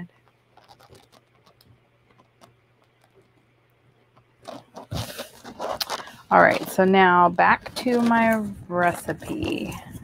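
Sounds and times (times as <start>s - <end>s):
paper rustling: 0.2s - 3.4s, 4.4s - 10.0s.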